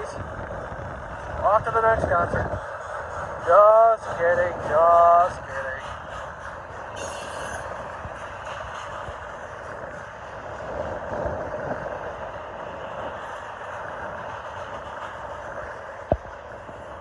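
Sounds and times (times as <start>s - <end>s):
train wheels rumbling on rails: 0.0s - 17.0s
wind on microphone: 0.0s - 17.0s.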